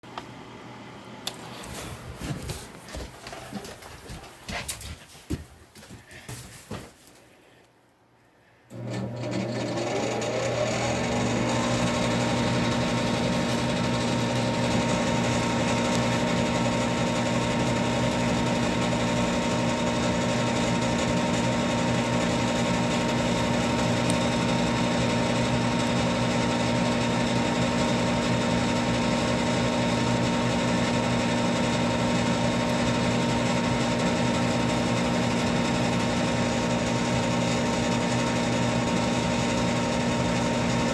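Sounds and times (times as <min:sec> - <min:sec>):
furnace motor humming: 0:00.1 - 0:04.6, 0:08.7 - 0:40.9.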